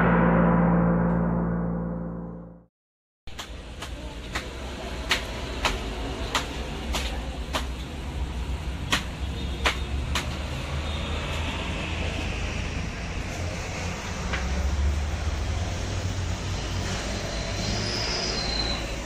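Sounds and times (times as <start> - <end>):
traffic rumble: 3.3 - 19.0.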